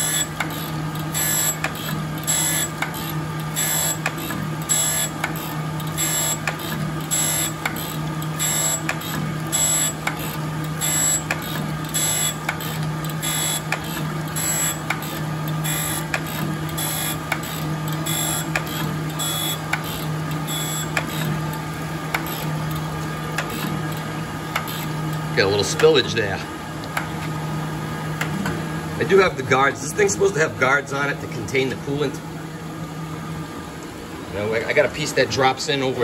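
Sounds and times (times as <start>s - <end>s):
grinder motor hum: 0.0s - 32.3s.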